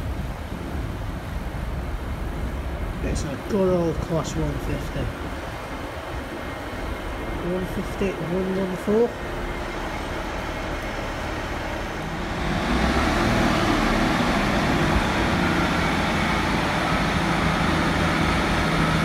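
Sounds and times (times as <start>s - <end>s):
diesel train engines running: 0.0s - 19.0s.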